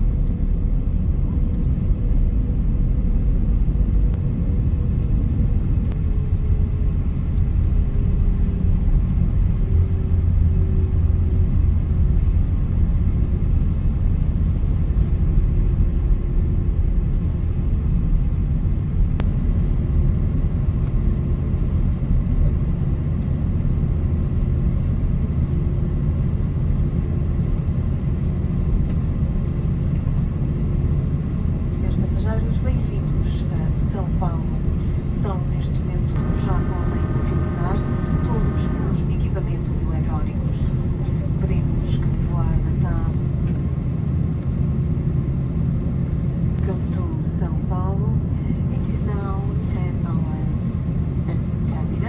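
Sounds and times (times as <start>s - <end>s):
airliner cabin rumble: 0.0s - 52.0s
jet engines humming: 0.0s - 52.0s.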